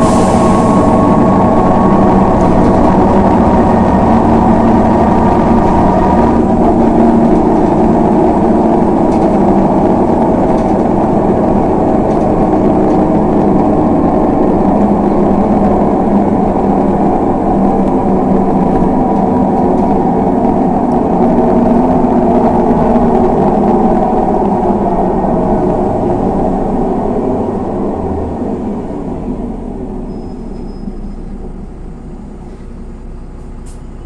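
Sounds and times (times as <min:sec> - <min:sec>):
bus diesel engine droning: 0:00.0 - 0:34.0.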